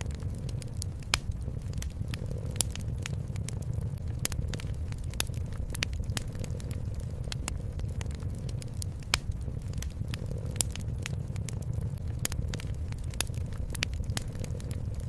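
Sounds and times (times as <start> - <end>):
cat purring: 0.0 - 15.0
fireplace crackling: 0.0 - 15.0.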